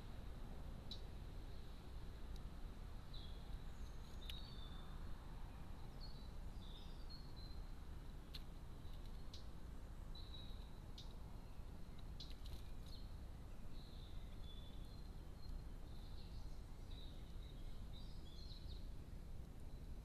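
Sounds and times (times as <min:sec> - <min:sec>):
small birds chirping: 0:00.8 - 0:20.0.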